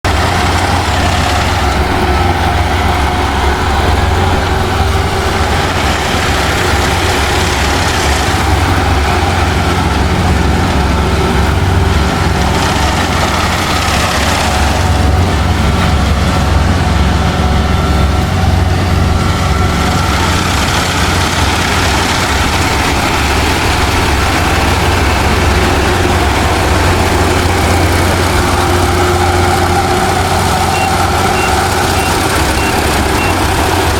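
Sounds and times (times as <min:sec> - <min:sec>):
combine harvester engine drone: 0:00.0 - 0:33.9
thin machinery whine: 0:00.1 - 0:33.9.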